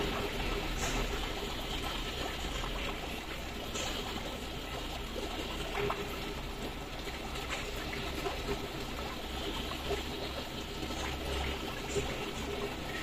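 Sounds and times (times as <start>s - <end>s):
water drips and splashes: 0.0s - 13.0s
water trickling: 0.0s - 13.0s.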